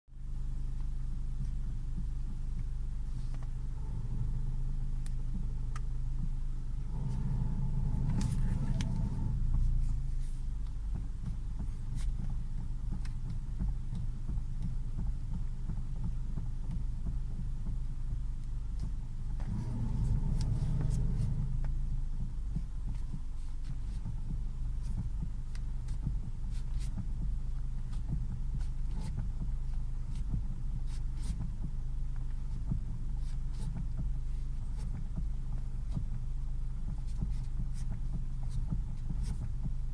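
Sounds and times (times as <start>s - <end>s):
car engine humming: 0.2s - 39.9s
rhythmic engine knocking: 3.6s - 39.9s.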